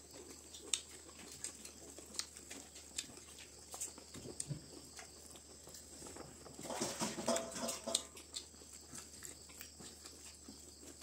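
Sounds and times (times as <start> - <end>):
people chewing with mouth smacks: 0.0 - 11.0.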